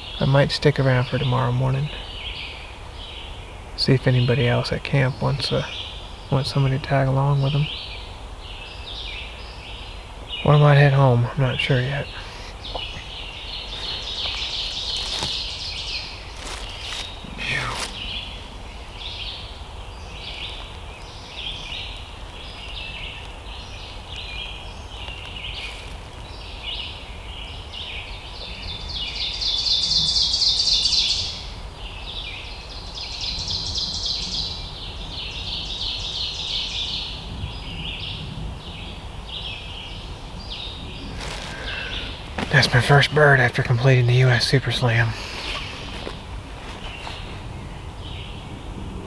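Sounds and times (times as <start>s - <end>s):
rapid trilled birdsong: 0.0s - 49.0s
songbirds chirping: 0.0s - 49.0s
low background rumble: 0.7s - 49.0s.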